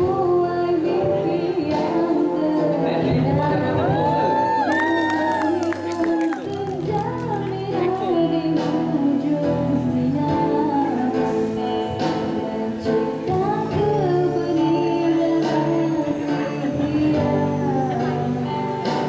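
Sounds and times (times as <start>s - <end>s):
backing music: 0.0s - 19.0s
woman singing: 0.0s - 19.0s.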